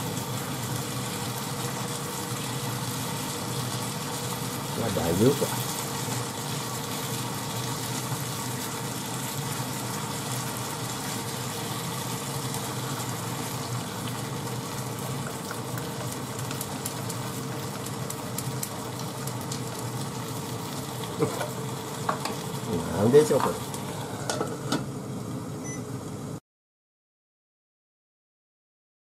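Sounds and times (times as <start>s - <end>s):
meat and onion sizzling in pan: 0.0s - 26.4s.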